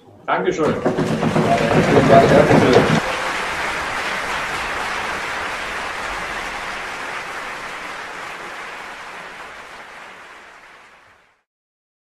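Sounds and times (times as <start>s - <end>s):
audience applauding: 0.4s - 11.5s.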